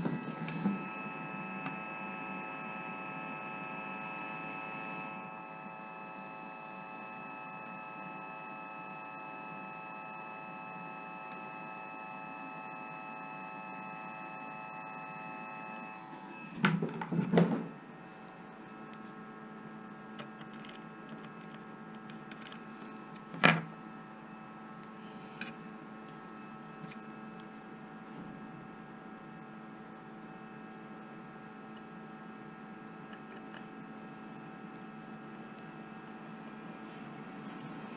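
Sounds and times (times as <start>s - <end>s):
electrical device whining hum: 0.0s - 37.9s.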